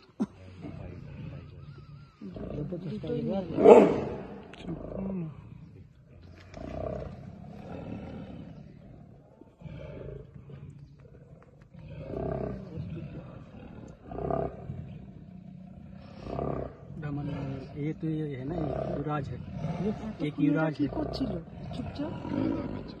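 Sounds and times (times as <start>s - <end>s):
tigers growling and roaring: 0.0s - 23.0s.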